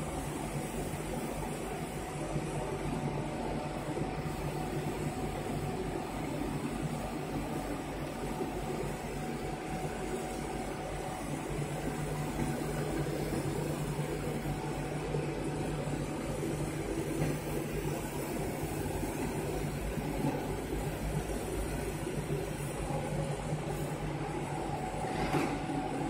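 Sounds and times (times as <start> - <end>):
laser cutting machine humming: 0.0 - 26.0.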